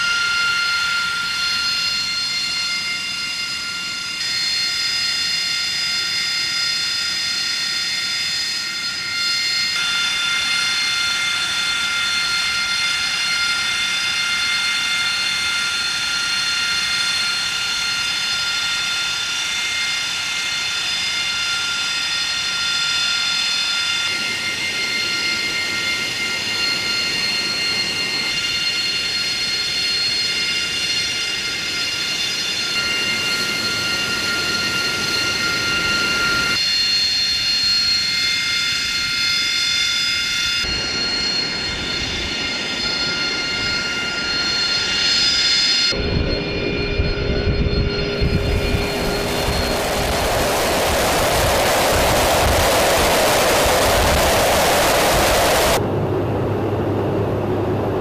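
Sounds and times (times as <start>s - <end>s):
jet engine whine and rush: 0.0s - 58.0s.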